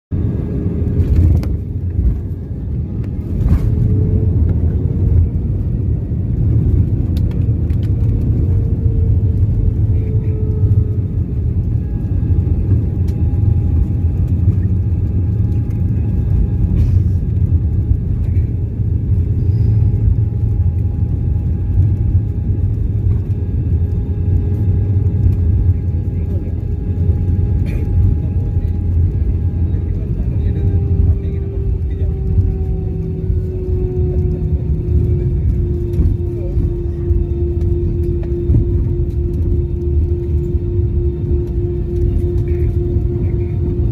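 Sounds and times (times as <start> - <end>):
airplane cabin engine rumble: 0.1 - 43.9
faint whining tones: 0.2 - 43.9.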